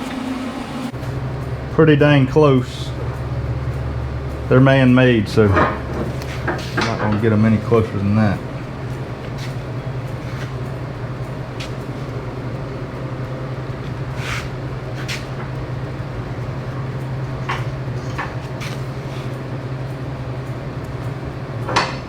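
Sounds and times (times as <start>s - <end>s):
low hum of shop machinery: 0.0s - 22.0s.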